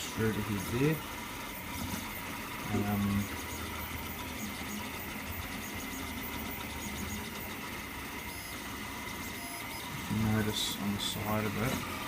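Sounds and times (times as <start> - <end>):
high stepper motor tones: 0.0 - 12.0
printer mechanical whir and hum: 0.0 - 12.0.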